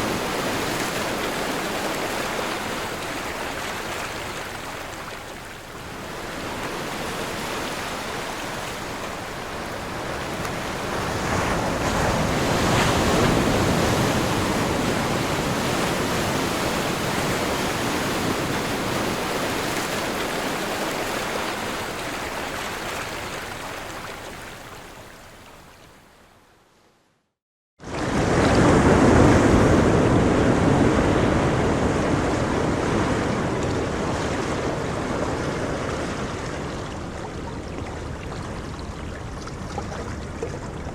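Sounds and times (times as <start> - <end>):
sea waves washing onto shore: 0.0 - 25.3, 27.8 - 40.8.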